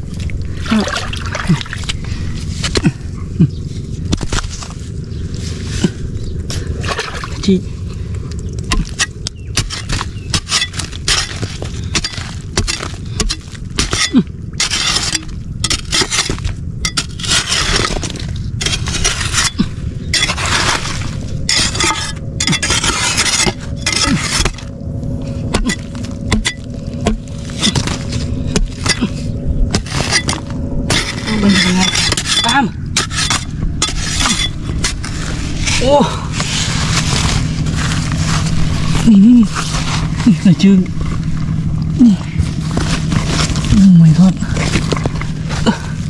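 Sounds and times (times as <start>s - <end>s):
shovel scraping and chopping ground: 1.9s - 6.7s, 8.6s - 41.4s, 42.0s - 46.0s.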